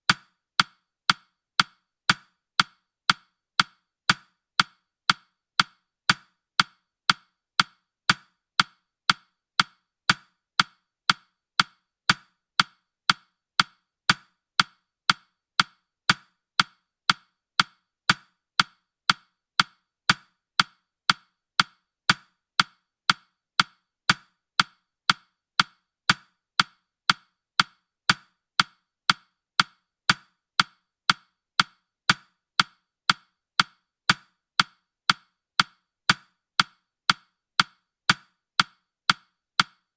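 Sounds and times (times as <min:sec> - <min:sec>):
timer ticking woody clicks: 0:00.1 - 0:39.9.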